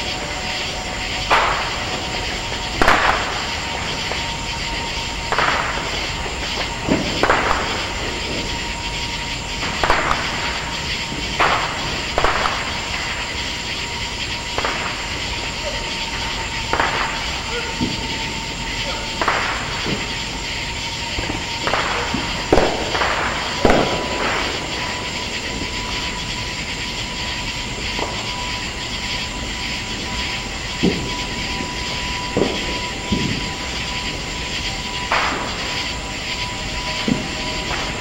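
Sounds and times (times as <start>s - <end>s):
fireworks bangs: 0.0s - 38.0s
steady background noise: 0.0s - 38.0s.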